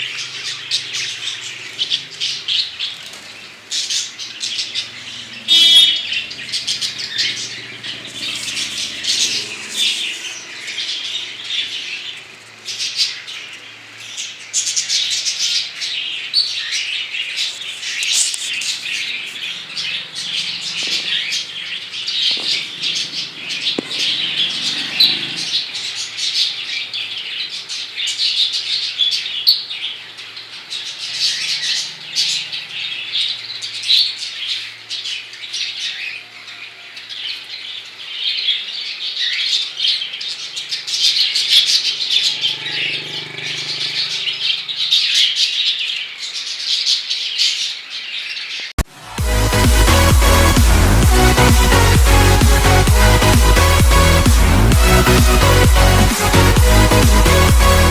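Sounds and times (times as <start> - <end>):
caged birds chirping and squawking: 0.0 - 48.8.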